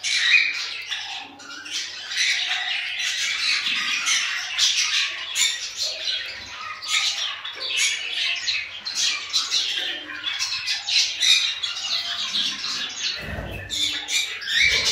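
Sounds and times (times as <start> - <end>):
cockatiels chirping and squawking: 0.0 - 14.9.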